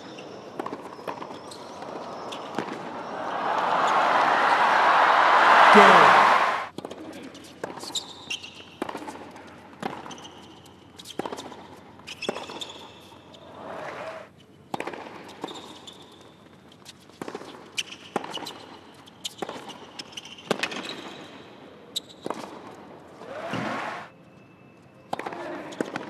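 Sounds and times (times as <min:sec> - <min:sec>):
shoes squeaking on court: 0:00.0 - 0:04.8, 0:07.3 - 0:22.9, 0:23.8 - 0:26.0.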